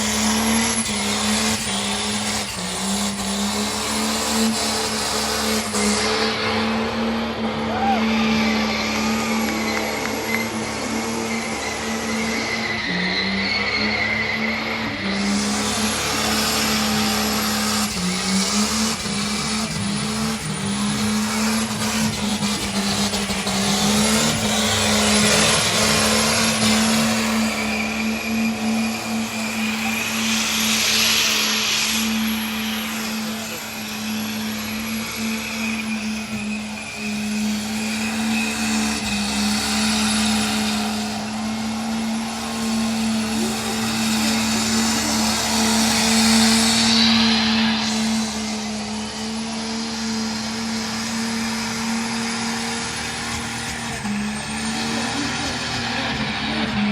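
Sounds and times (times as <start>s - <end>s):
spinning tyres hissing: 0.0s - 56.9s
truck engine revving high: 0.0s - 56.9s.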